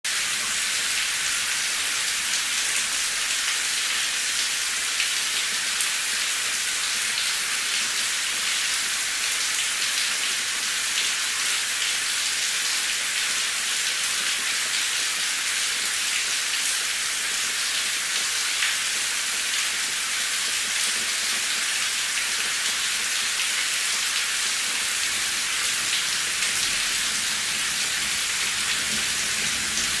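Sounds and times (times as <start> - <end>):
steady rain on hard surface: 0.1 - 30.0.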